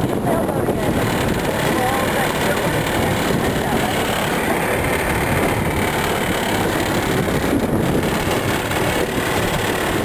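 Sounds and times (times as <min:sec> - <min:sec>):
outboard motor running: 0:00.0 - 0:10.0
wind buffeting the microphone: 0:00.0 - 0:10.0.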